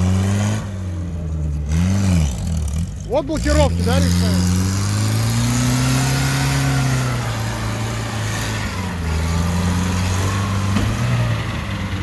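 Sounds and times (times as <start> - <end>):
van engine running: 0.0 - 12.0.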